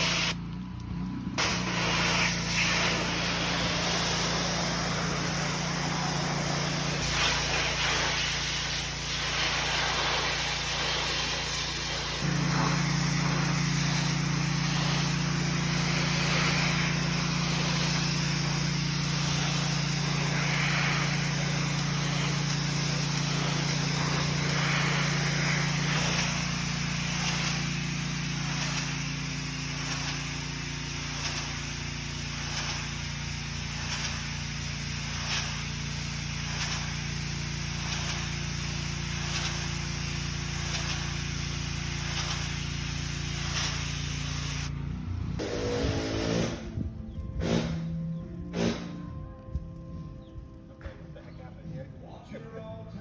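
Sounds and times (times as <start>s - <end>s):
high-pressure water spray hiss: 0.0s - 0.4s, 1.4s - 44.7s, 45.4s - 46.8s
pressure washer engine drone: 0.0s - 49.1s.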